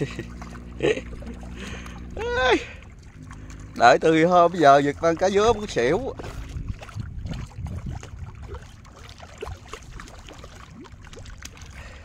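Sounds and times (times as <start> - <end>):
fish splashing at water surface: 0.0 - 12.0
water dripping: 0.0 - 12.0.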